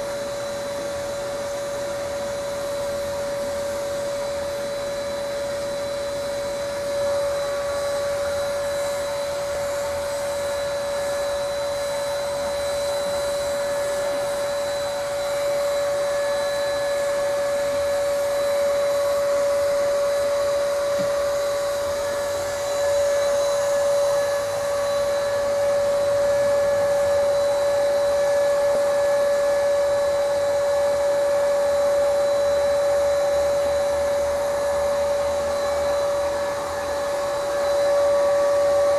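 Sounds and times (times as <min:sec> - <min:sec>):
whining compressed air hose: 0:00.0 - 0:38.9.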